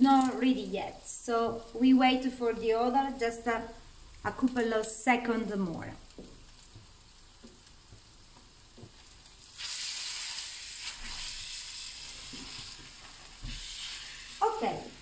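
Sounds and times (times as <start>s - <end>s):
battered food deep-frying in oil: 0.0s - 15.0s.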